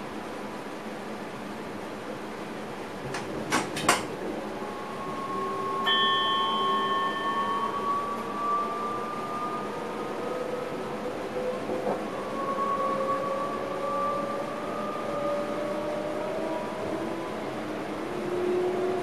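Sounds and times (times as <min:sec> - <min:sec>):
rising electric motor whine: 0:02.2 - 0:19.0.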